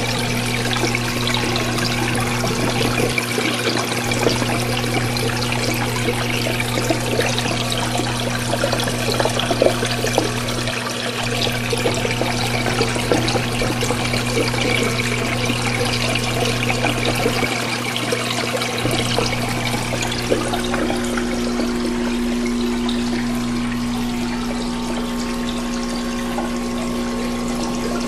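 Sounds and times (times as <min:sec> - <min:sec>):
aquarium pump humming: 0:00.0 - 0:28.0
water splashing and gurgling: 0:00.0 - 0:28.0.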